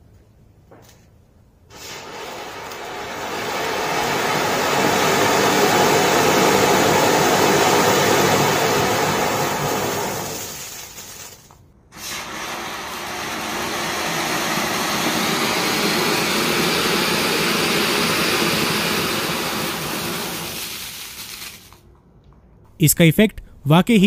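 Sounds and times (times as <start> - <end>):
firework fountain hissing: 1.7 - 21.8.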